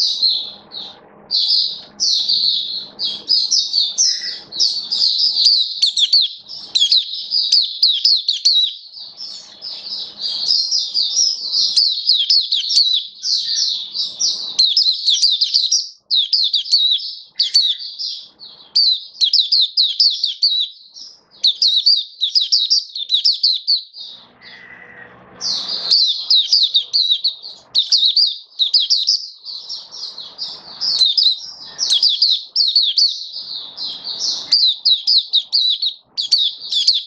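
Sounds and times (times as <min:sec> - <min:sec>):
bird warbling song: 0:00.0 - 0:37.0.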